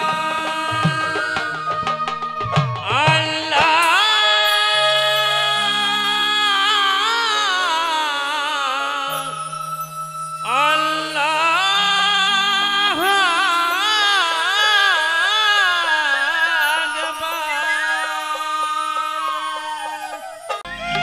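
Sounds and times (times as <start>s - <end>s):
ornamented folk melody: 0.0s - 21.0s.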